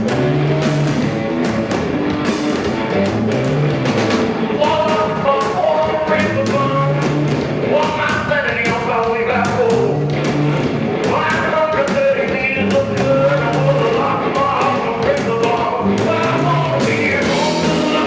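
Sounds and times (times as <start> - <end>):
rock band music: 0.0 - 18.0.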